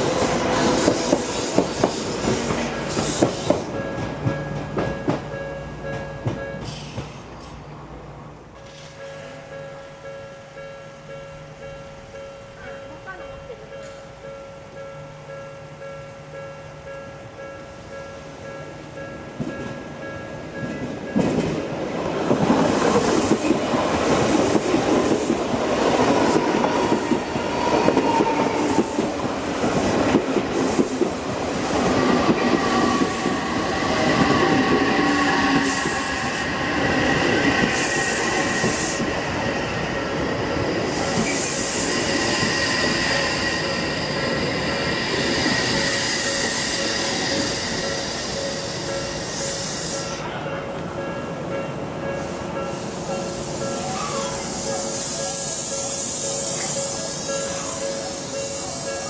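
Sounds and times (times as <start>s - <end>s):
train wheels running over rails: 0.0s - 7.7s, 19.1s - 59.0s.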